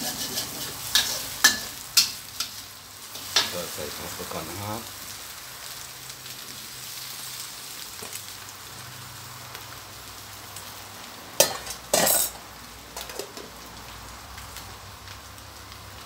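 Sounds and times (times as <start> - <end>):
food sizzling in wok: 0.0 - 16.0.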